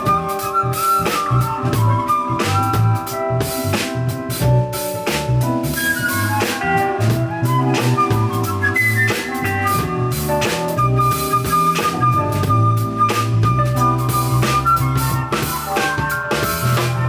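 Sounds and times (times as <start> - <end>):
drum kit beat: 0.0 - 17.0
jazz band playing: 0.0 - 17.0.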